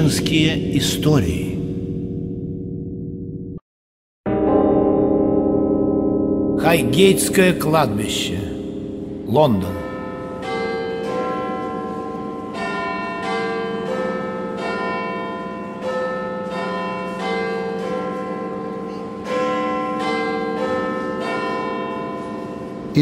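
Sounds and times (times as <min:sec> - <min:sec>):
church bells pealing: 0:00.0 - 0:02.9, 0:04.3 - 0:23.0.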